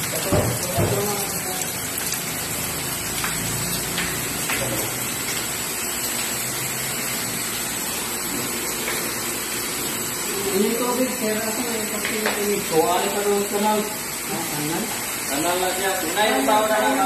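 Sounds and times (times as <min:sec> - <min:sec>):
water rushing through machine: 0:00.0 - 0:17.0.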